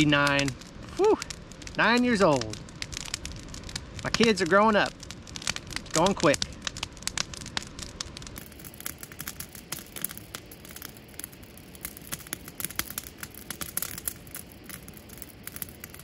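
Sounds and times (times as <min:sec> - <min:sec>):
campfire crackling: 0:00.0 - 0:16.0
flames hissing: 0:00.0 - 0:16.0.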